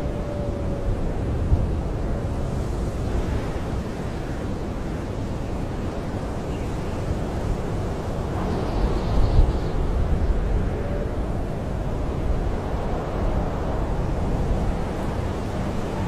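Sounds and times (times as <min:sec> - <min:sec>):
blizzard wind rumbling: 0:00.0 - 0:16.0.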